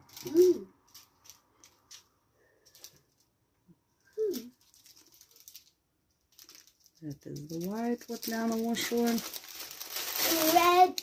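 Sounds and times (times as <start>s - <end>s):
beads clicking: 0.0s - 3.3s, 4.2s - 11.0s
plastic bags crinkling: 0.0s - 3.3s, 4.2s - 11.0s.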